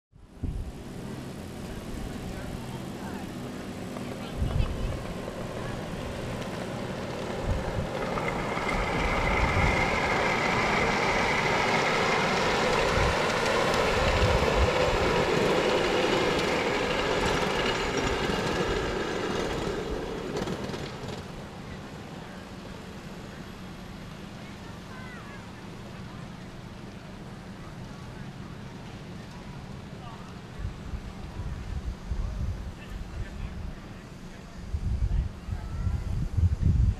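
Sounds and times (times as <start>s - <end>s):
miniature train running past: 0.2s - 36.9s.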